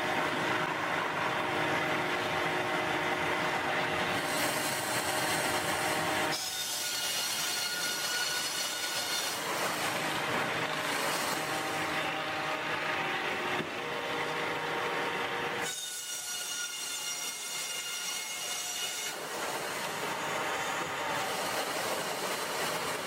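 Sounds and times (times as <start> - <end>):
saw cutting through timber: 0.0 - 23.0.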